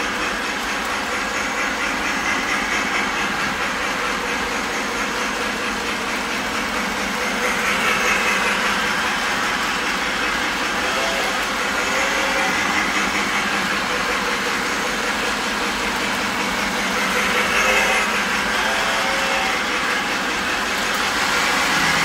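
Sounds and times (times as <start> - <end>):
model train wheels rumbling on rails: 0.0 - 22.0.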